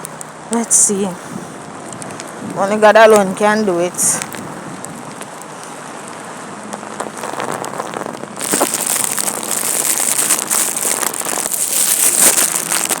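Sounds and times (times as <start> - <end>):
heavy rain splattering: 1.8 - 13.0.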